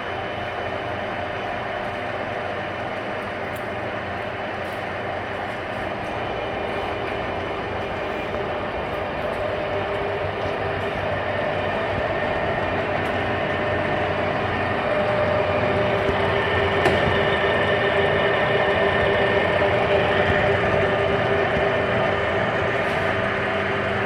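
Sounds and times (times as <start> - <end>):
lathe humming with gear whine: 0.0 - 24.0.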